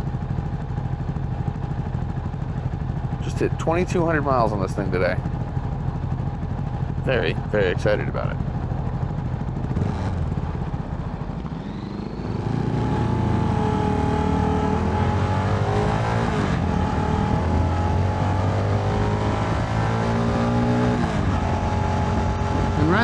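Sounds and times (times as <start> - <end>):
motorcycle engine revving: 1.9 - 23.0.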